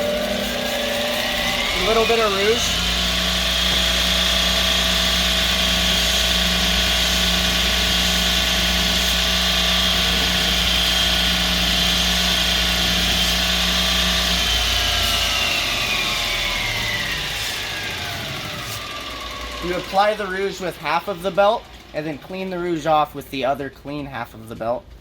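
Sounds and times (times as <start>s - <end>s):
belt grinder running: 0.0s - 23.2s.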